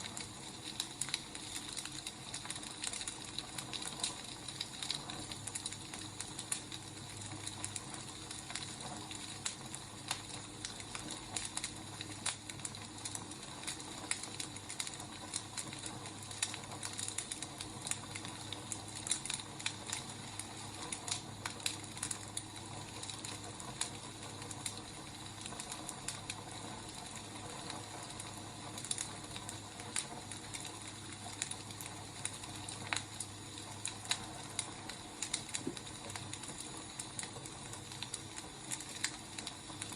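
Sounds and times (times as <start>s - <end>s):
logs crackling and popping: 0.0s - 39.9s
wood fire hissing: 0.0s - 39.9s.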